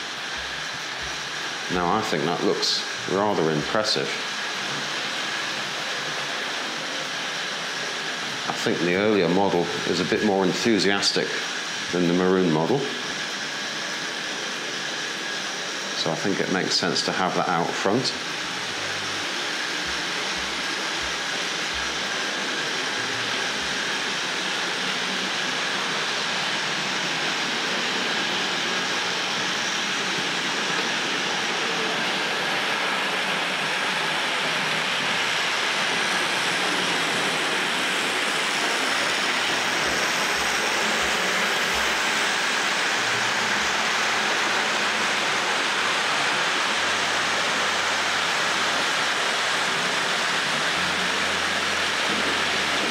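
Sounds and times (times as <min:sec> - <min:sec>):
model train rumbling on track: 0:00.0 - 0:52.9.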